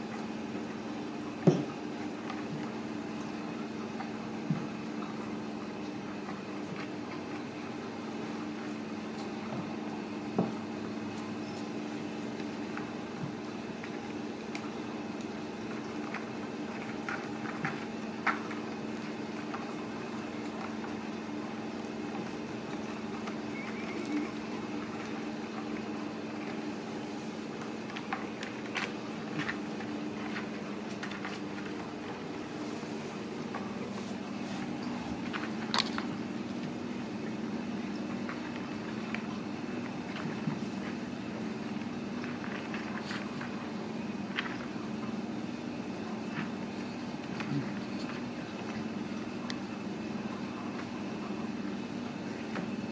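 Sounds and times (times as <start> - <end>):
low mechanical hum: 0.0 - 52.9.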